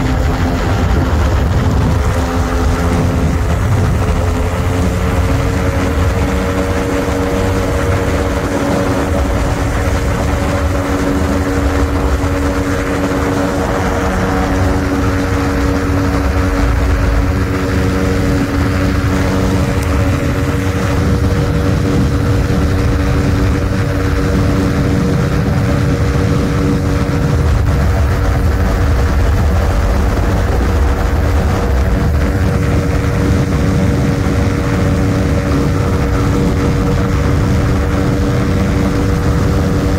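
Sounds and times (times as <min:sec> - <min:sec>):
heavy low rumble: 0:00.0 - 0:39.9
light aircraft engine and propeller: 0:00.0 - 0:39.9.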